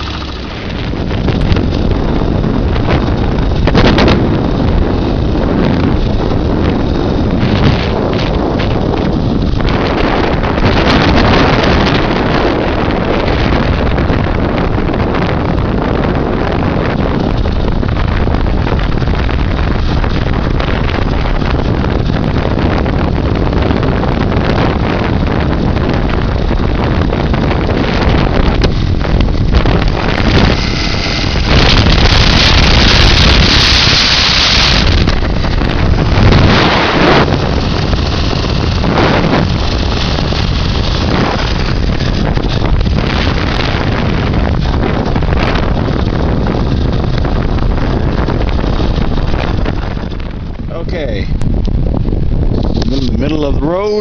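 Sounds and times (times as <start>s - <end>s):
motorcycle engine running: 0.0s - 53.7s
wind buffeting microphone: 0.0s - 54.0s.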